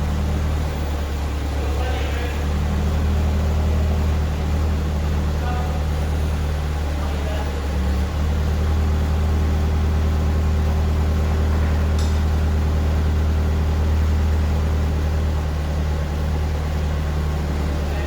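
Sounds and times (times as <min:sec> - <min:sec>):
heavy machine engine running: 0:00.0 - 0:18.0.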